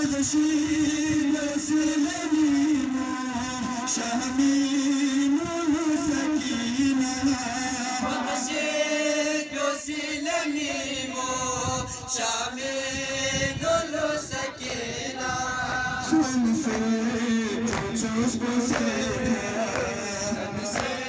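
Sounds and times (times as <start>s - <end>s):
men chanting together: 0.0s - 21.0s.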